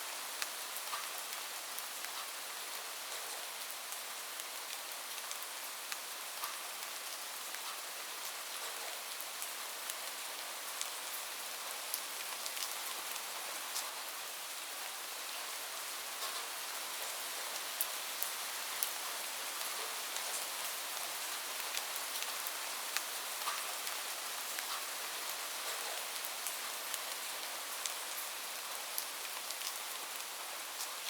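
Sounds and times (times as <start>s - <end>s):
steady rain hiss: 0.0s - 31.0s
raindrops ticking on surface: 0.4s - 11.2s, 11.8s - 14.0s, 16.2s - 31.0s.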